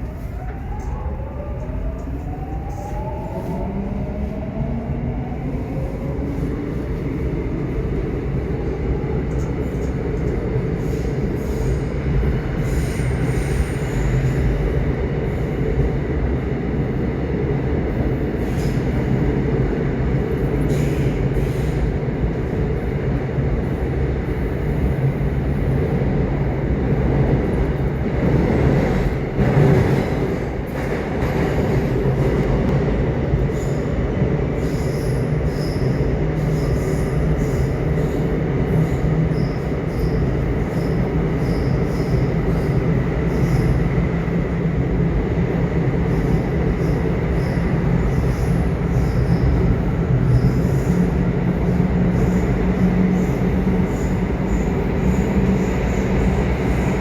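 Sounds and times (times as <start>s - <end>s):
subway train wheels rumbling: 0.0s - 57.0s.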